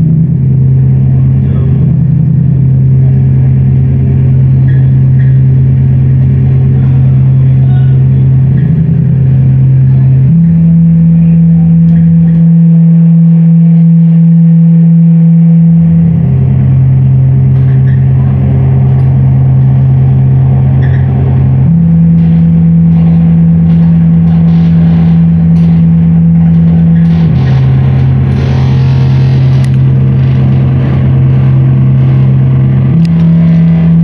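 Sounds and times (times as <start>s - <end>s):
gritty crackle: 0.0s - 34.0s
low electronic drone: 0.0s - 34.0s.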